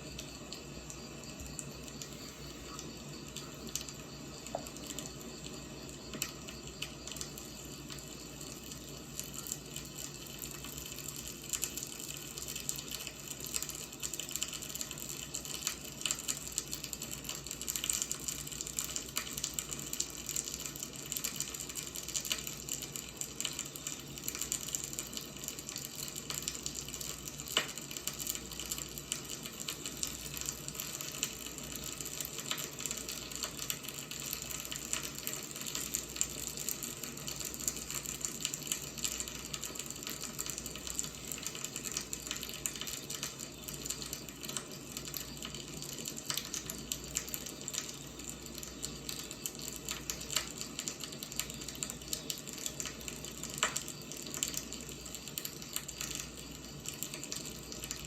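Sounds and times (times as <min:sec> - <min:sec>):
firewood burning crackling: 0:00.0 - 0:58.0.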